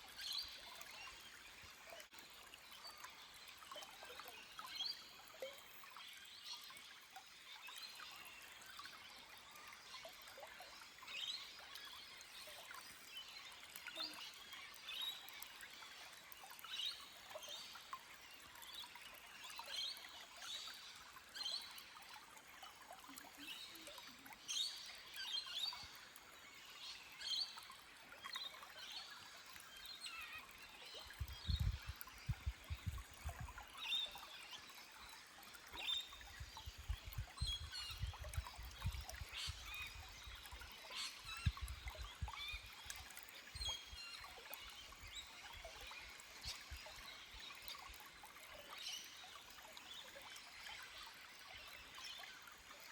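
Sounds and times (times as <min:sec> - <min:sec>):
stream trickling over rocks: 0:00.0 - 0:52.9.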